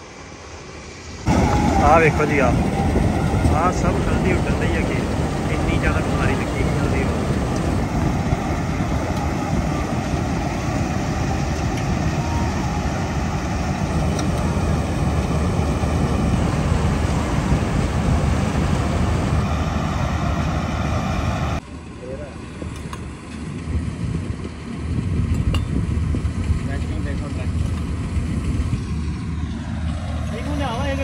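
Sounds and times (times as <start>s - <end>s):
farm machinery engine running: 1.2s - 31.0s.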